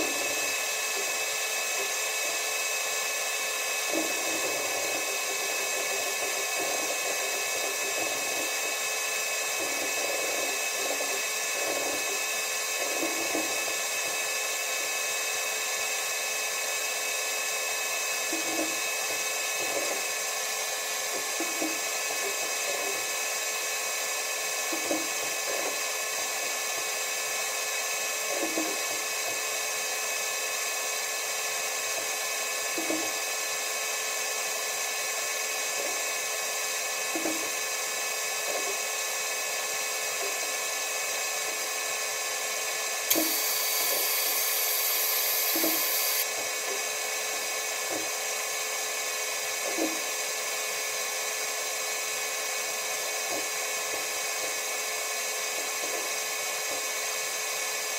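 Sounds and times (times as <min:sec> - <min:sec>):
machine whine and hiss: 0:00.0 - 0:57.9.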